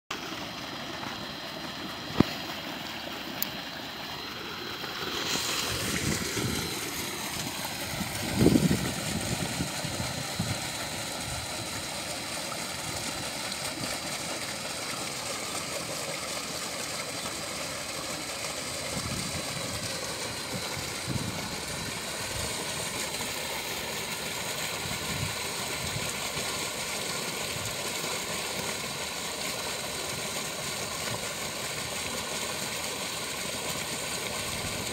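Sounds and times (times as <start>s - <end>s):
water rushing over weir: 0.1s - 34.9s.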